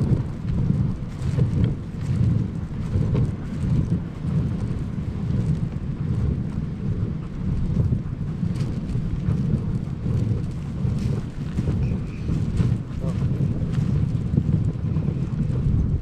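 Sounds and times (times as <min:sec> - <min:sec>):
sled runners rumbling on snow: 0:00.0 - 0:16.0
wind on microphone: 0:00.0 - 0:16.0.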